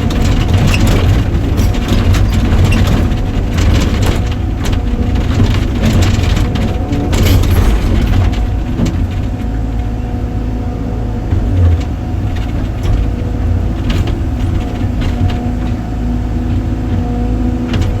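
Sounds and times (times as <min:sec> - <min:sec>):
clanks and knocks: 0:00.0 - 0:18.0
heavy machine engine running: 0:00.0 - 0:18.0.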